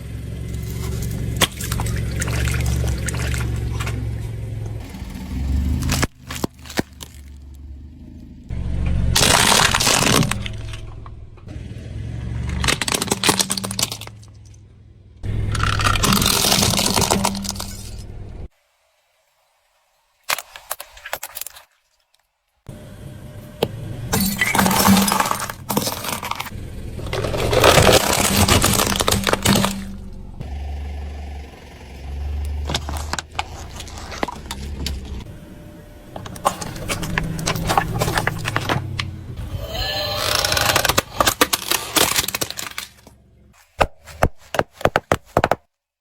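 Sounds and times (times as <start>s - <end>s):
crunching and crackling: 0.0s - 8.4s, 9.1s - 11.5s, 12.3s - 14.7s, 15.4s - 18.5s, 20.2s - 22.4s, 23.5s - 30.6s, 32.4s - 45.7s.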